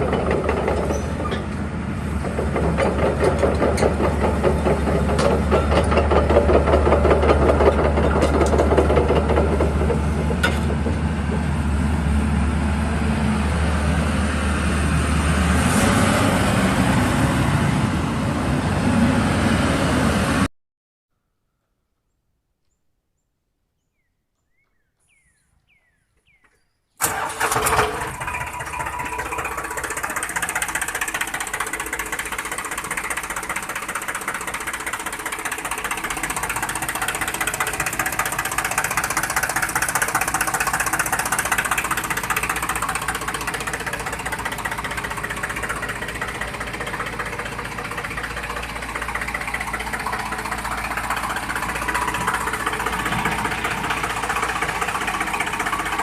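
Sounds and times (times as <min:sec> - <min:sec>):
engine running: 0:00.0 - 0:20.5, 0:27.0 - 0:56.0.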